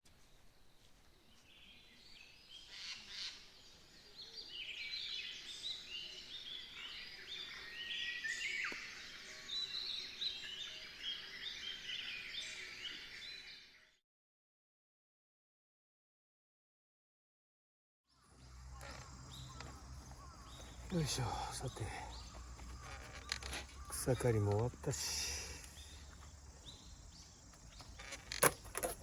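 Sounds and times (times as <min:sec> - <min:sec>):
small birds chirping and twittering: 0:00.2 - 0:14.0, 0:18.1 - 0:29.0.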